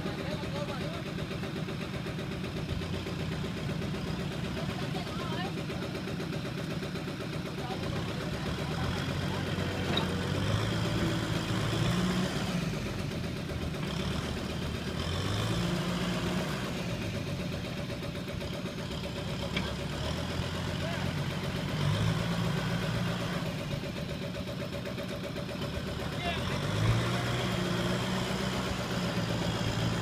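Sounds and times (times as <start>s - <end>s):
tractor diesel engine revving: 0.0s - 30.0s.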